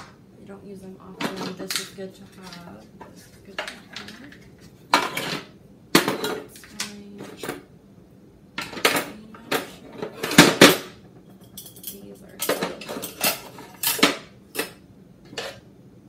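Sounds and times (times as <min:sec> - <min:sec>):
kitchen utensils clattering: 0:01.1 - 0:07.6, 0:08.6 - 0:15.6.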